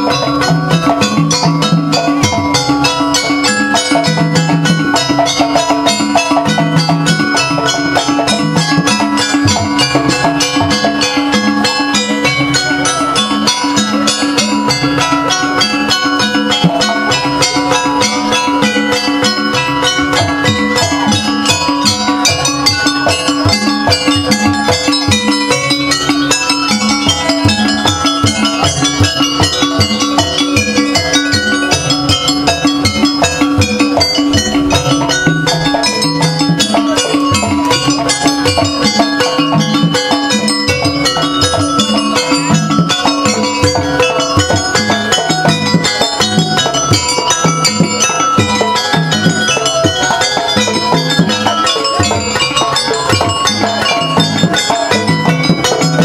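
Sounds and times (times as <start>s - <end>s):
gamelan ensemble playing: 0.0s - 56.0s.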